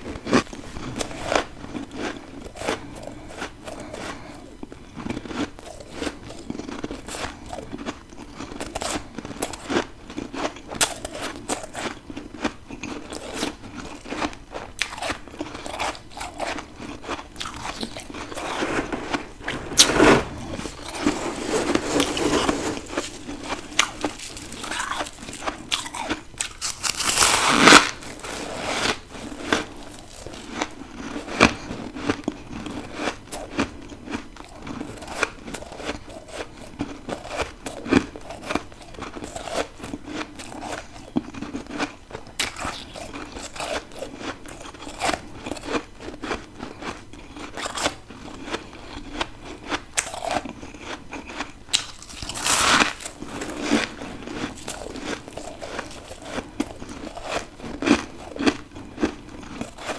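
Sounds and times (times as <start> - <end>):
crunching and chewing ice: 0.1 - 59.9.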